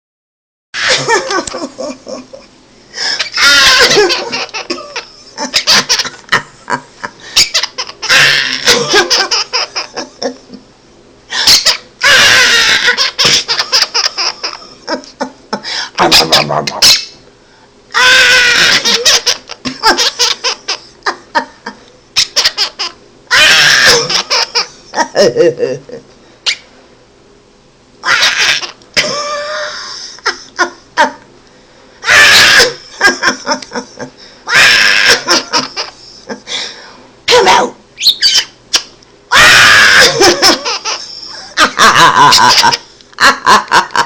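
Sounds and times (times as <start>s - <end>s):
parrot chuckling: 0.8s - 10.6s, 11.3s - 17.2s, 18.0s - 26.6s, 28.0s - 31.3s, 32.0s - 36.5s, 38.0s - 44.0s.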